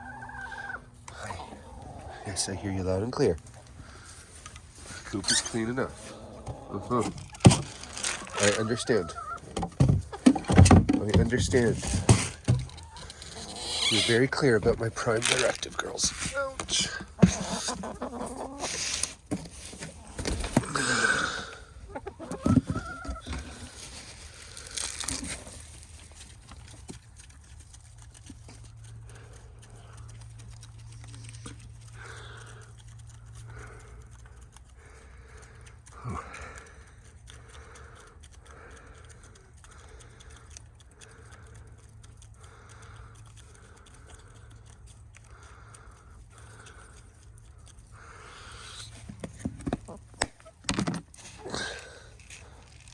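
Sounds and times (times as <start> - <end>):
hens clucking: 0.0 - 25.8, 26.4 - 52.0.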